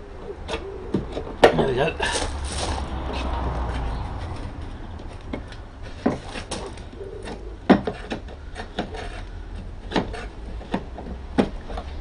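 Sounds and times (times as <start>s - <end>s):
weather strip clicks and scraping: 2.0s - 12.0s.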